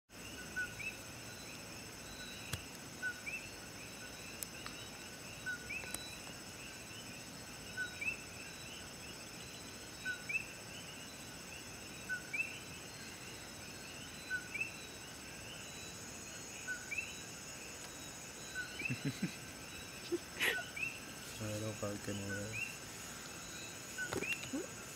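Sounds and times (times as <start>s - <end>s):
high-pitched insect trilling: 0.2s - 24.9s.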